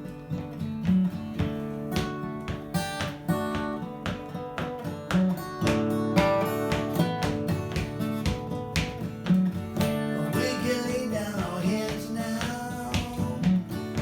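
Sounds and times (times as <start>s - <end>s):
acoustic guitar strummed and picked: 0.0s - 14.0s.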